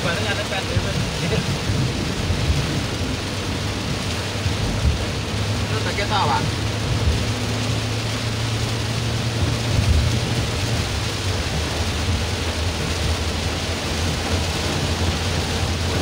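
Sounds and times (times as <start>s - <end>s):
car driving rumble: 0.0s - 16.0s
heavy rain on car roof: 0.0s - 16.0s.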